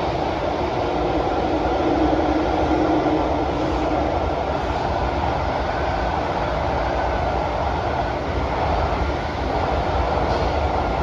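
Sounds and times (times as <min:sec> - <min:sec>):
rumble of wheels on rail: 0:00.0 - 0:11.0.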